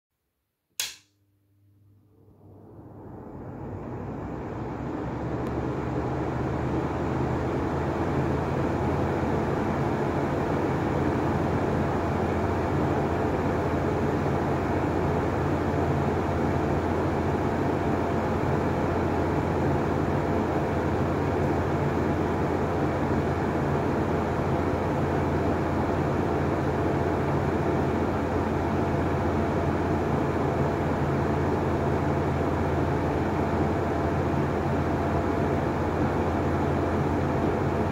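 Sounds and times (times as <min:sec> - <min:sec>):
exhaust fan motor hum: 0:02.1 - 0:37.9.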